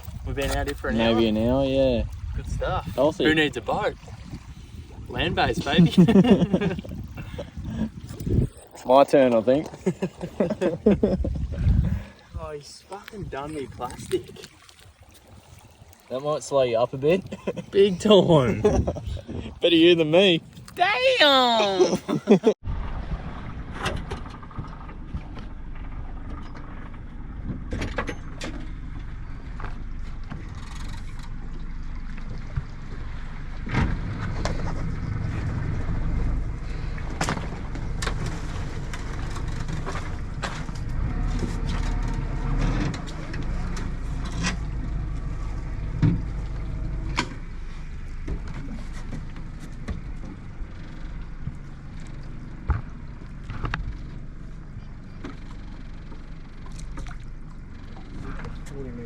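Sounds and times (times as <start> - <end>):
boat engine rumble: 0.0 - 59.0.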